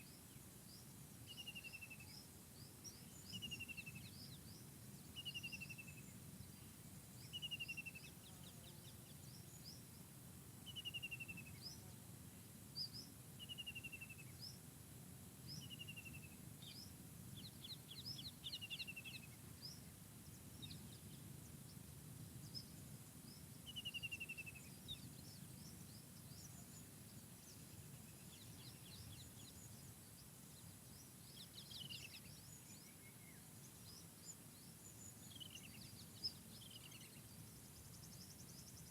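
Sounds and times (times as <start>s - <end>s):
forest birds singing: 0.0s - 14.7s, 15.4s - 38.9s.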